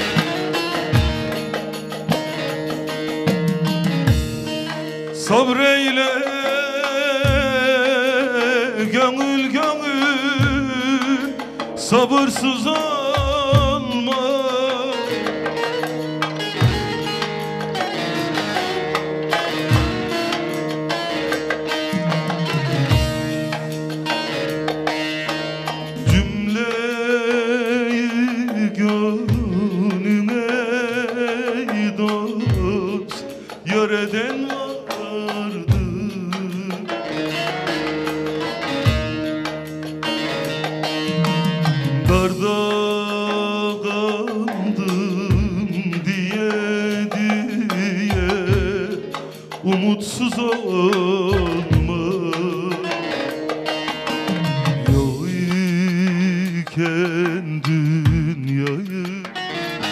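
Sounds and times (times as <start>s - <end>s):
deep drum beat: 0.0s - 24.9s, 25.9s - 27.0s, 28.3s - 37.4s, 38.1s - 53.4s, 54.0s - 59.9s
folk music on lute and keyboard: 0.0s - 55.4s.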